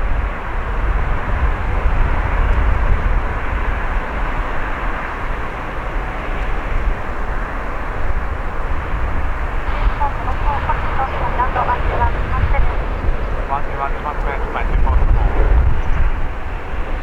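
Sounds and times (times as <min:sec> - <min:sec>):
jet engines rumbling: 0:00.1 - 0:17.0.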